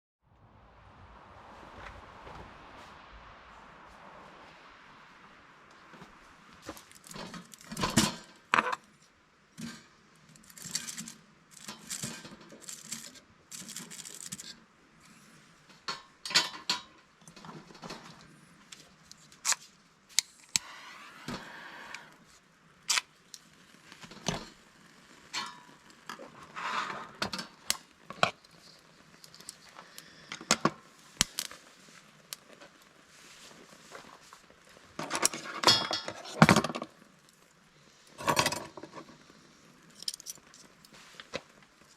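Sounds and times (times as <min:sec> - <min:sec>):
rustling: 0:00.5 - 0:14.4, 0:17.4 - 0:41.9.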